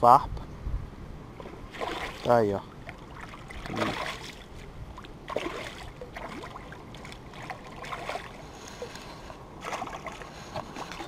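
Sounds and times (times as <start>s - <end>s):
water splashing and sloshing: 1.3s - 11.0s.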